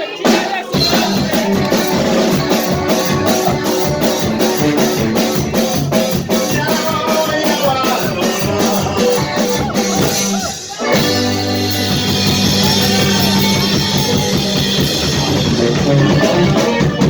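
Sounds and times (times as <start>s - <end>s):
brass band with drums: 0.0s - 17.0s.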